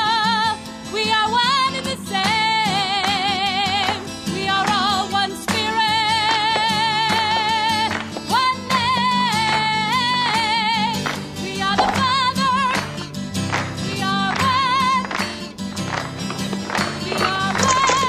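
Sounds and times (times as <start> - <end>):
woman singing with vibrato: 0.0 - 13.0, 13.8 - 15.2, 16.8 - 18.0
strummed acoustic guitar: 0.0 - 18.0.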